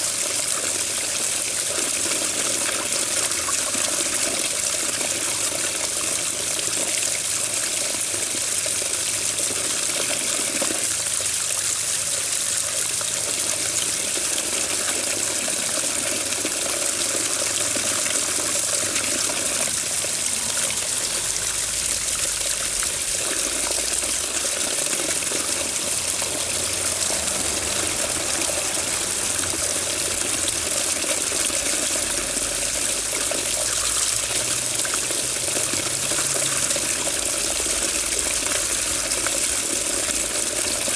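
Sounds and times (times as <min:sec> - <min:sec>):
water running steadily: 0:00.0 - 0:40.9.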